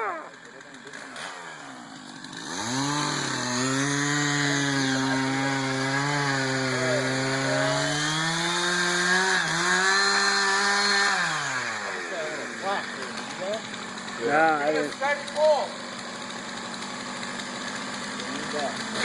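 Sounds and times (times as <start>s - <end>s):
chainsaw cutting tree: 0.0s - 19.0s.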